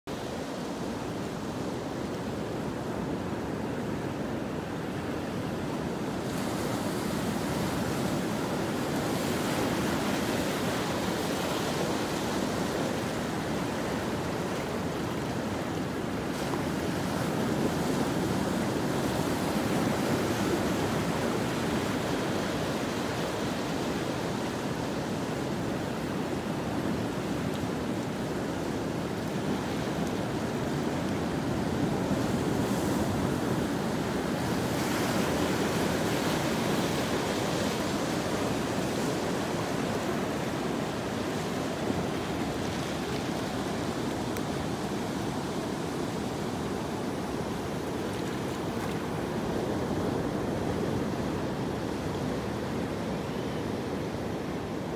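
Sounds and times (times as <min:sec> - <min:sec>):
ocean surf on rocky shore: 0:00.1 - 0:54.9.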